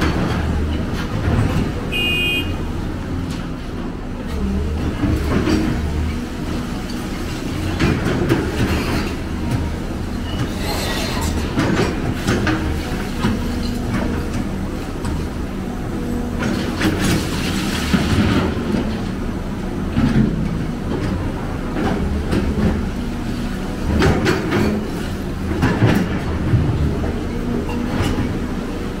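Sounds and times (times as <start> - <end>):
diesel machinery engine hum: 0.0 - 29.0.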